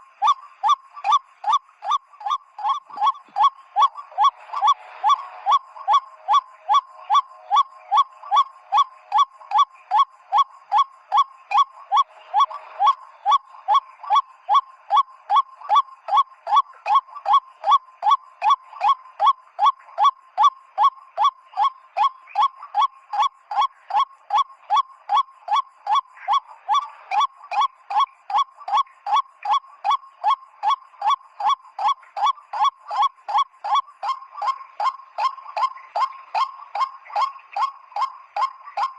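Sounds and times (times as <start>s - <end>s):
whistle lure honking call: 0.2s - 38.9s.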